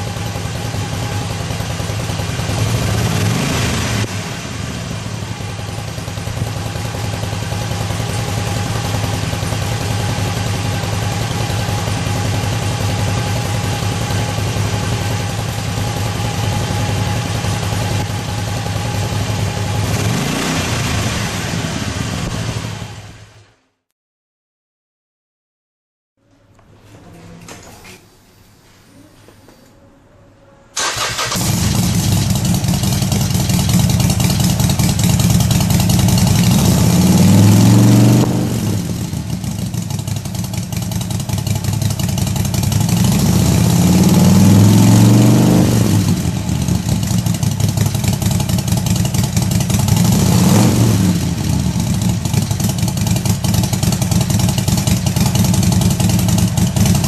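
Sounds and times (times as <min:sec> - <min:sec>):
motorcycle engine starting and idling: 0:00.0 - 0:23.5, 0:30.8 - 0:57.0.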